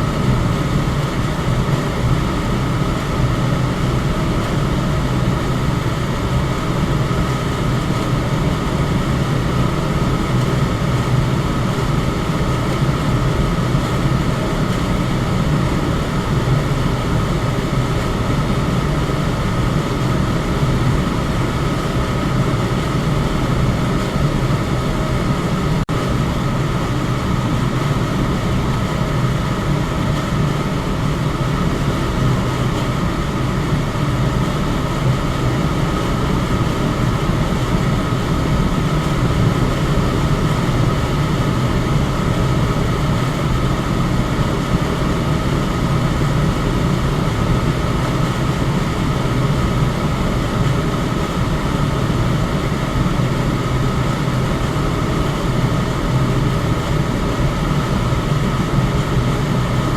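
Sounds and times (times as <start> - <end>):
electric fan air rush: 0.0 - 59.9
fan low hum: 0.0 - 59.9.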